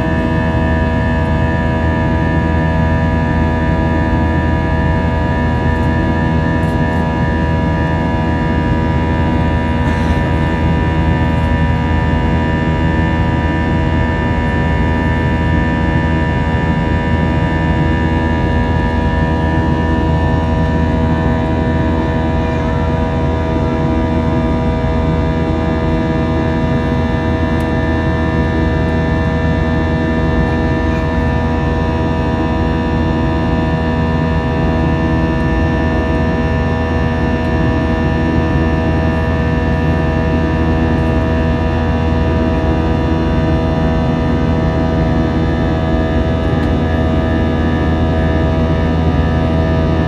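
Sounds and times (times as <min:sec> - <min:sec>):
jet engine cabin drone: 0:00.0 - 0:50.0.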